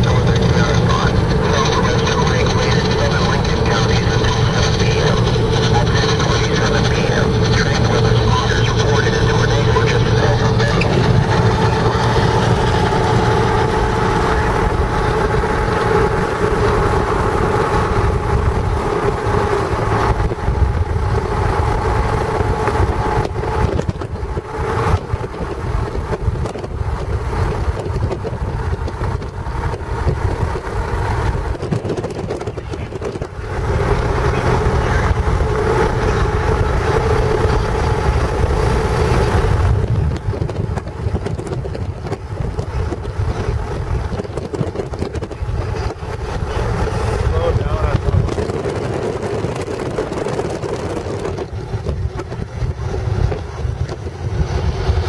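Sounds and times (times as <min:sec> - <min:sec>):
car engine and road noise: 0:00.0 - 0:55.0
constant hum: 0:00.0 - 0:55.0.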